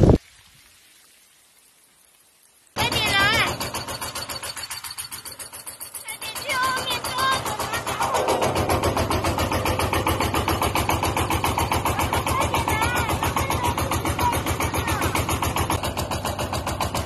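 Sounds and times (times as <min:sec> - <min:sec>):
engine chugging steadily: 0:02.8 - 0:17.0.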